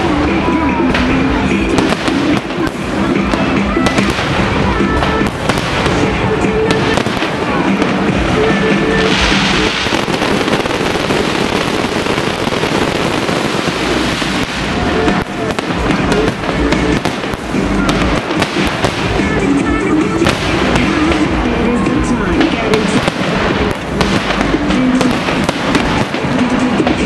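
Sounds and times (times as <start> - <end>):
fireworks banging and crackling: 0.0 - 27.0
music playing: 0.0 - 27.0.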